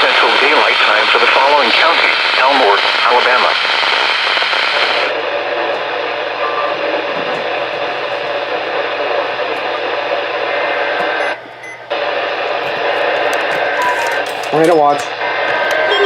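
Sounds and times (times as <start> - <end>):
radio static and hiss: 0.0 - 16.0.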